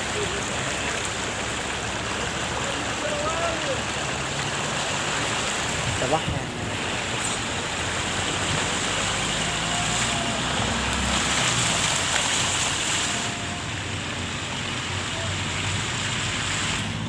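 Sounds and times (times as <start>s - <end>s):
floodwater rushing: 0.0s - 17.0s
vehicles driving through water: 0.0s - 17.0s.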